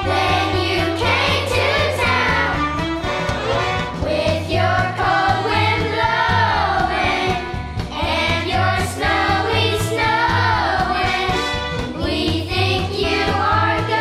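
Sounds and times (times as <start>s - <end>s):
children's choir singing: 0.0s - 2.8s, 3.9s - 14.0s
instrumental accompaniment: 0.0s - 14.0s
repeating bass line: 0.0s - 14.0s.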